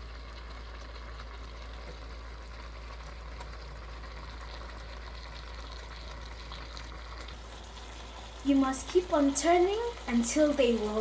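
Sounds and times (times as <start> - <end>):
food sizzling and bubbling in pot: 0.0 - 11.0.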